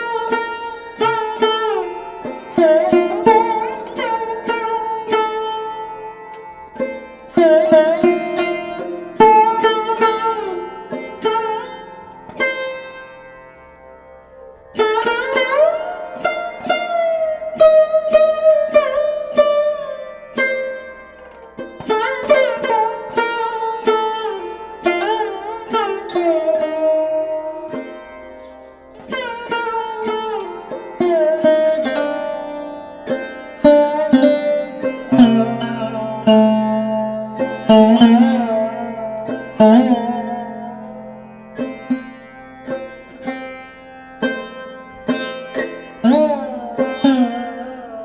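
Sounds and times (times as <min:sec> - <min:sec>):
plucked string instrumental music: 0:00.0 - 0:48.0.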